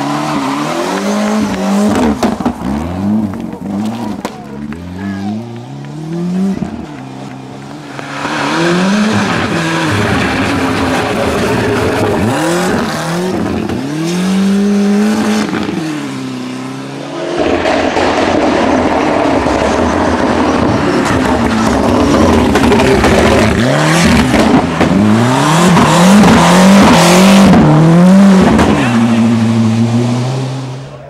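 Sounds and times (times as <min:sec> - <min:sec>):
rally car engine revving hard: 0:00.0 - 0:04.2, 0:07.8 - 0:30.9.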